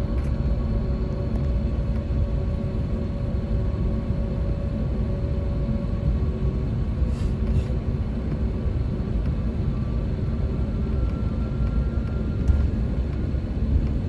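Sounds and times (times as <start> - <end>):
faint steady whine: 0.0 - 14.0
low rumble inside aircraft cabin: 0.0 - 14.0.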